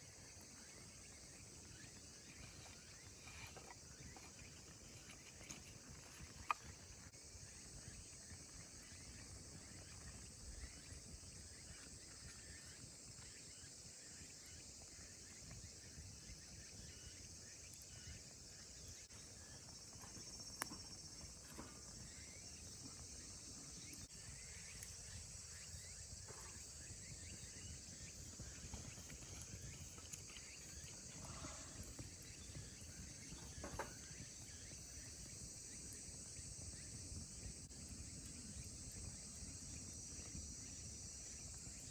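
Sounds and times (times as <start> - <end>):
chorus of summer insects: 0.0 - 41.9.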